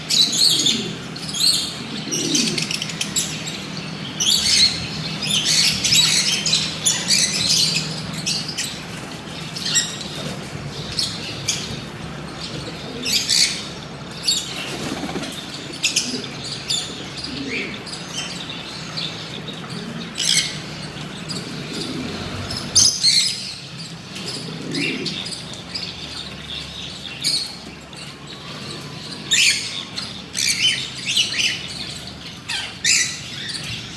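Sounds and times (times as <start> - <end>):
lovebirds chirping and squawking: 0.0 - 33.9.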